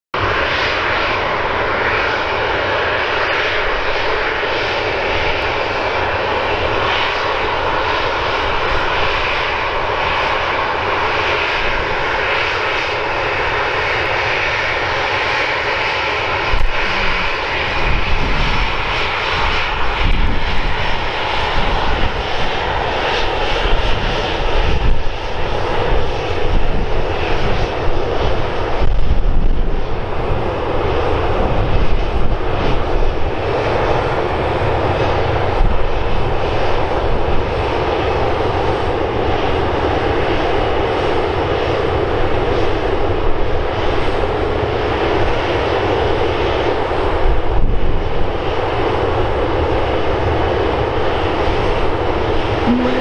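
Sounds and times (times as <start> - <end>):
deep rumble of take-off thrust: 0.2 - 43.4
jet engines running: 0.2 - 53.0.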